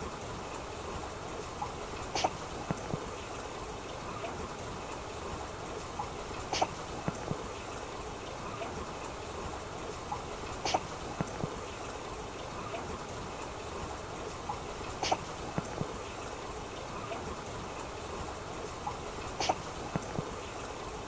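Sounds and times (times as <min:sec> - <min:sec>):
soft drips and clicks: 0:00.0 - 0:21.0
trickling water: 0:00.0 - 0:21.0.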